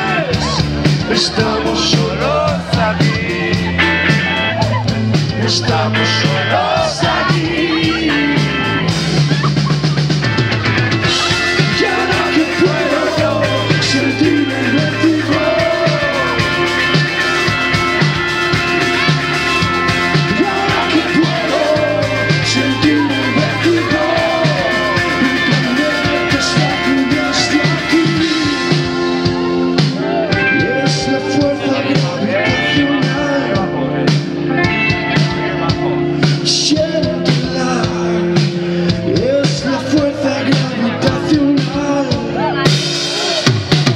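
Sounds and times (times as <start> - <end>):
man singing: 0.0 - 9.6, 11.0 - 43.5
rock band playing: 0.0 - 43.9.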